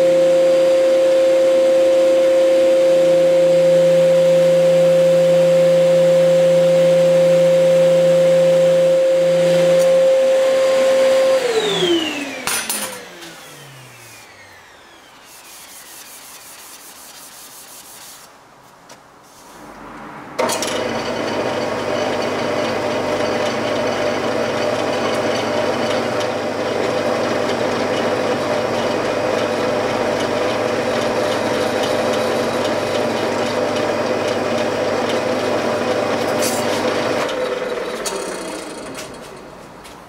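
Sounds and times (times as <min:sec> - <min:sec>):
wood lathe motor hum: 0:00.0 - 0:17.0, 0:20.4 - 0:39.6.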